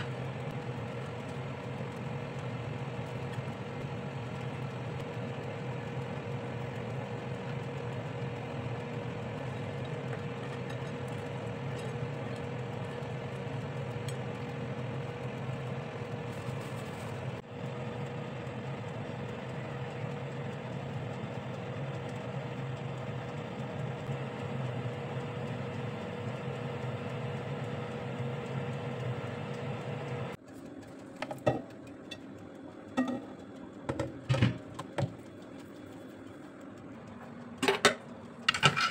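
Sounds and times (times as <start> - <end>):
oven fan motor humming: 0.0 - 38.9.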